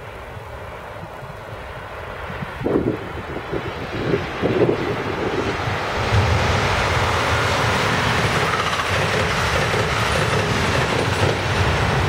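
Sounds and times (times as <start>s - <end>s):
passenger train passing: 0.0s - 12.0s.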